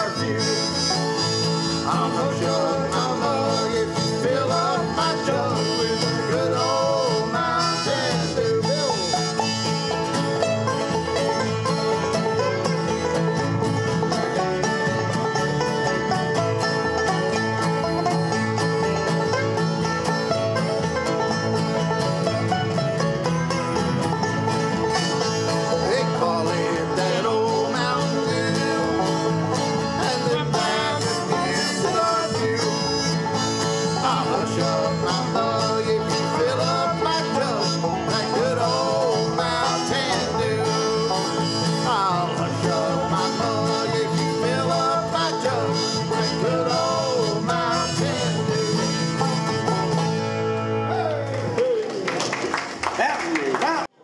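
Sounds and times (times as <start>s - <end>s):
bluegrass band with guitars and banjo: 0.0s - 54.0s.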